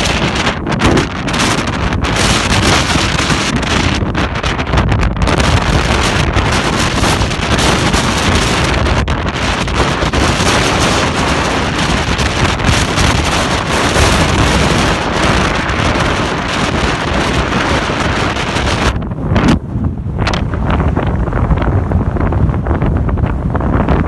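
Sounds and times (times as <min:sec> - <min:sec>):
wind blasting microphone: 0:00.0 - 0:24.0.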